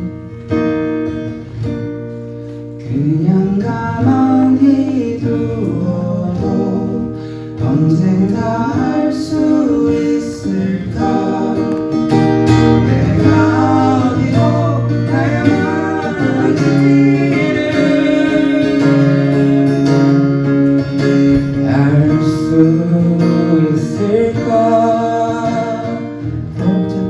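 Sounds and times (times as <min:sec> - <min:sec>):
guitar-led instrumental music: 0:00.0 - 0:27.0.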